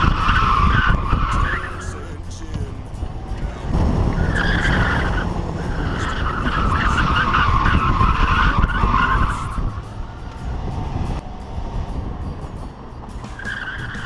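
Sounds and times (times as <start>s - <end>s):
car tyres squealing: 0.0s - 14.0s
engine and road rumble: 0.0s - 14.0s.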